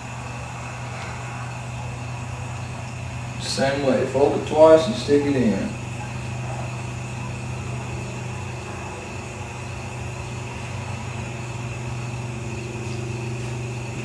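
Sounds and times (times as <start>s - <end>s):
faint high whine: 0.0s - 14.0s
low mechanical hum: 0.0s - 14.0s.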